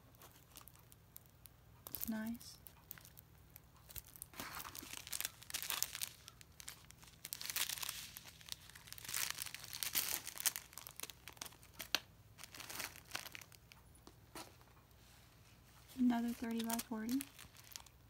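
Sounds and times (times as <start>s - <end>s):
plastic packaging crinkling: 0.0s - 13.8s, 15.9s - 18.0s.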